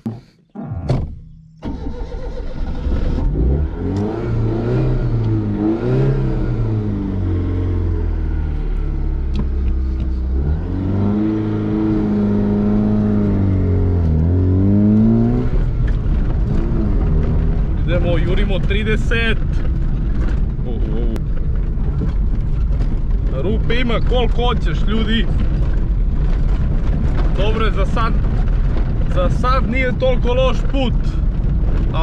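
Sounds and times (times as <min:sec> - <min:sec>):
car engine accelerating: 0:00.0 - 0:32.0
car engine starting: 0:00.0 - 0:32.0
tyres on gravel road: 0:00.0 - 0:32.0.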